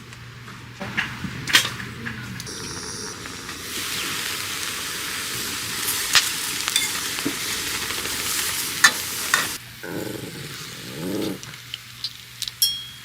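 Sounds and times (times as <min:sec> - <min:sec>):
food sizzling in a pan: 0:02.5 - 0:13.0.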